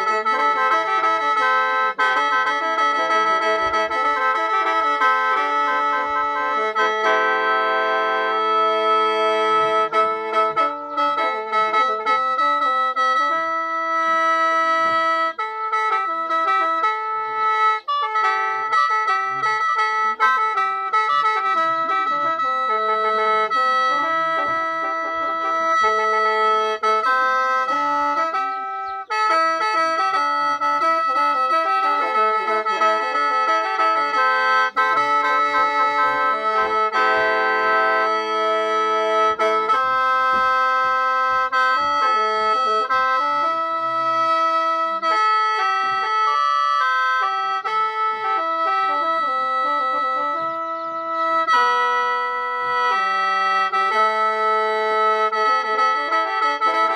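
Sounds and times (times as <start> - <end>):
free-reed mouth organ melody: 0.0 - 56.9.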